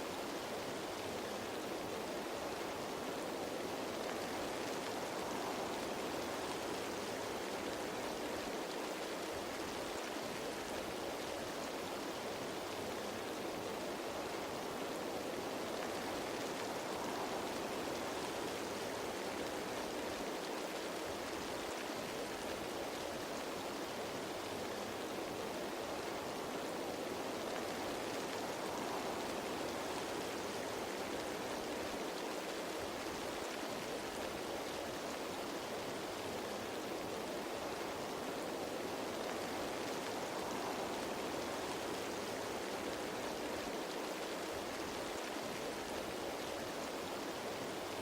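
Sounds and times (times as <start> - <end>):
rain falling on leaves: 0.0 - 48.0.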